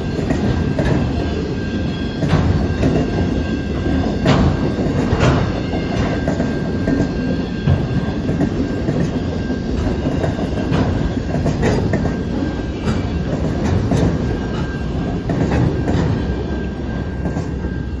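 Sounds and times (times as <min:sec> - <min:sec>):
freight train rumbling past: 0:00.0 - 0:18.0
wheels clicking and clattering: 0:00.0 - 0:18.0.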